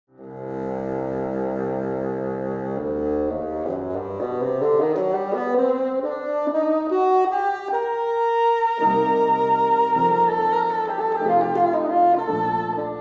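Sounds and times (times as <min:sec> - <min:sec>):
solo bassoon: 0:00.1 - 0:13.0.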